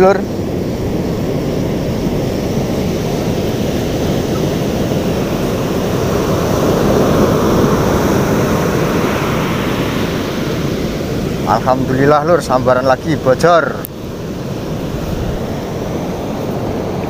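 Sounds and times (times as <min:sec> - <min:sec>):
ocean surf breaking: 0:00.0 - 0:17.0
wind rumbling on microphone: 0:00.0 - 0:17.0.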